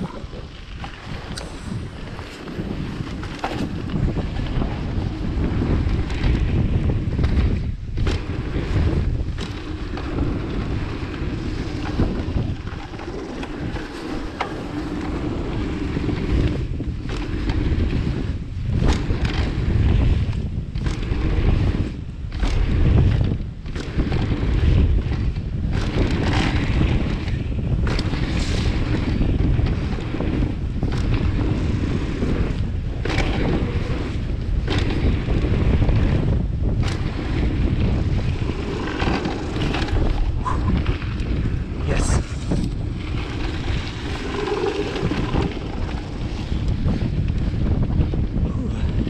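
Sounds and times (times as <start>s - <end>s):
bike tyres rolling on trail: 0.0s - 49.0s
wind buffeting microphone: 0.0s - 49.0s.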